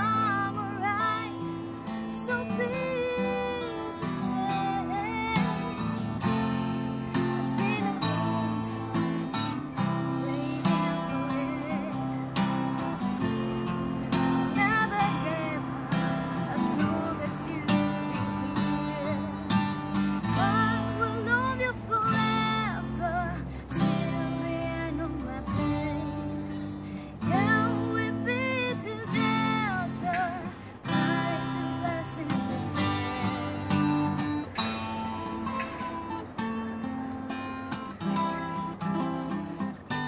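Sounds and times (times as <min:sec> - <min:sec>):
woman singing: 0:00.0 - 0:13.5, 0:14.1 - 0:36.2
acoustic guitar strumming: 0:00.0 - 0:40.0.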